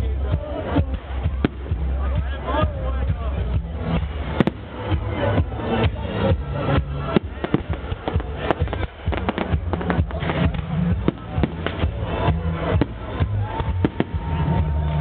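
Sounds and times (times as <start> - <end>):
music with steady bass: 0.0 - 15.0
fireworks bangs and crackles: 0.3 - 15.0.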